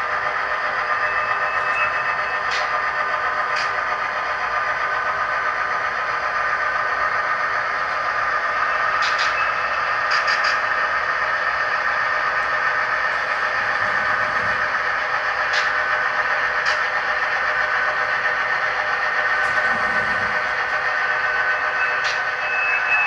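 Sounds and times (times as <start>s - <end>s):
model train rolling on track: 0.0s - 23.0s.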